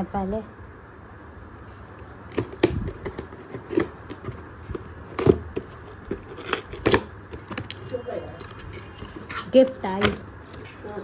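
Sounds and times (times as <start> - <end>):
cardboard scraping and rustling: 1.8 - 10.8.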